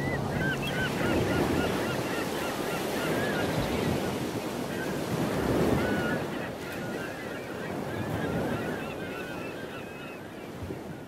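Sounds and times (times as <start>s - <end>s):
birds calling: 0.0s - 11.0s
waves washing on shore: 0.0s - 11.0s.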